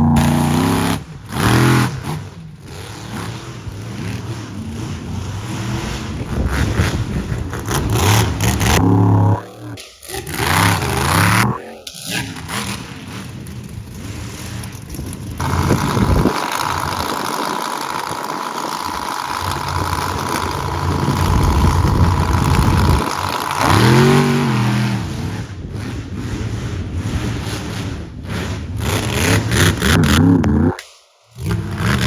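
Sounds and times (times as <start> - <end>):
truck engine revving: 0.0 - 30.8, 31.4 - 32.0.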